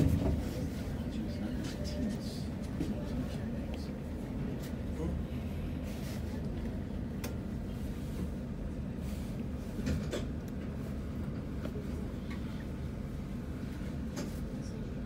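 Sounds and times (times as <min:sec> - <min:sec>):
tram cabin rumble and hum: 0:00.0 - 0:15.0.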